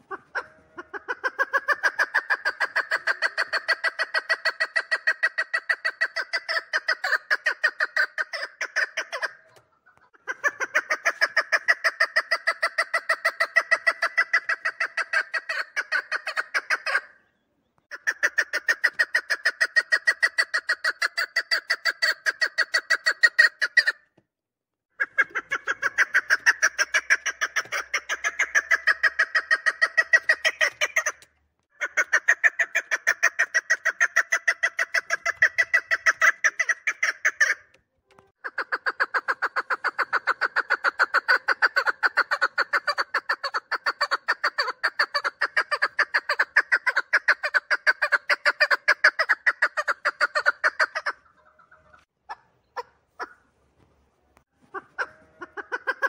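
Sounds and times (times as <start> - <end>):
partridge calling chuk notes: 0.0 - 24.0, 25.0 - 53.5.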